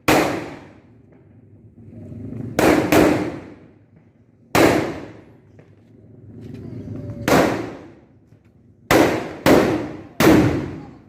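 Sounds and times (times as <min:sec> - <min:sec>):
large firecrackers exploding: 0:00.0 - 0:11.0.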